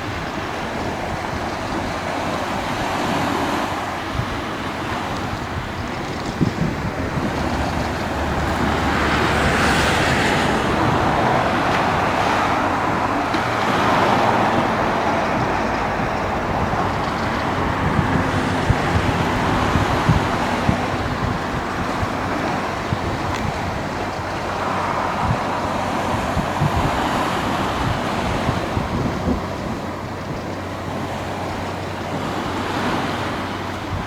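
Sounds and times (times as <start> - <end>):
sea waves washing on shore: 0.0 - 34.0
wind rumble on microphone: 0.0 - 34.0.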